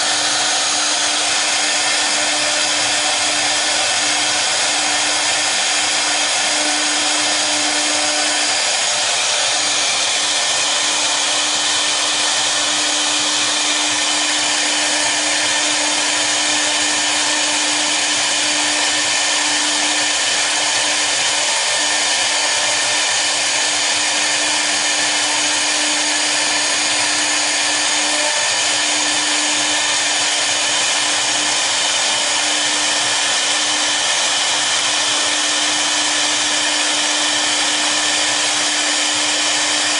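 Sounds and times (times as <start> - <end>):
router spindles running: 0.0 - 39.9.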